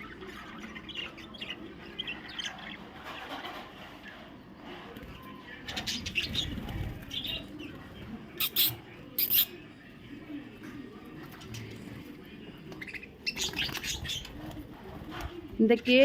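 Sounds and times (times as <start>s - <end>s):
lovebirds chirping and calling: 0.0s - 9.9s, 11.2s - 16.0s.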